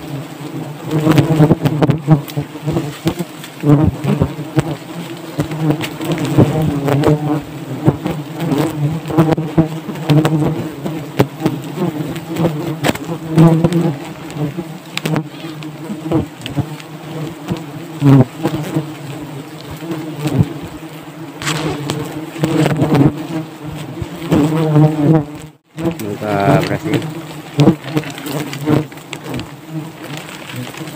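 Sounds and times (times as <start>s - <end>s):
honeybees buzzing: 0.0s - 30.9s.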